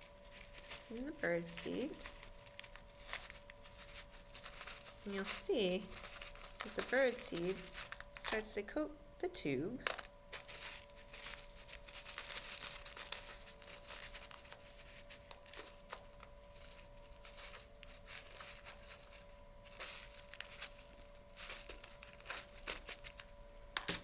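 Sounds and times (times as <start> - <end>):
bird seed rustling on a plate: 0.0 - 8.6, 9.8 - 24.0.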